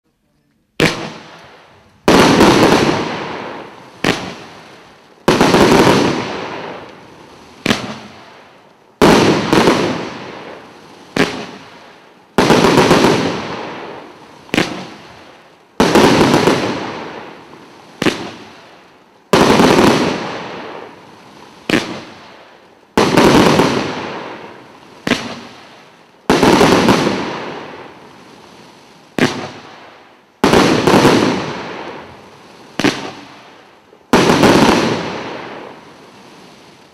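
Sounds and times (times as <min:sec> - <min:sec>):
fireworks aerial bursts: 0:00.1 - 0:36.9.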